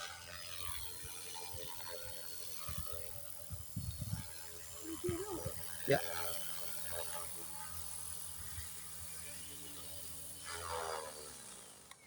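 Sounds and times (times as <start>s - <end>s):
rc helicopter rotor whine: 0.0s - 12.0s
rotor winding down whir: 0.0s - 12.0s.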